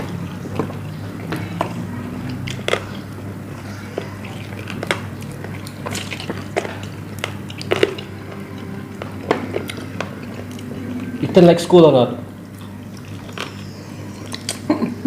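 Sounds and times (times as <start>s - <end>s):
people chewing chicken wings: 0.0s - 11.5s, 12.3s - 15.0s
low steady hum: 0.0s - 15.0s.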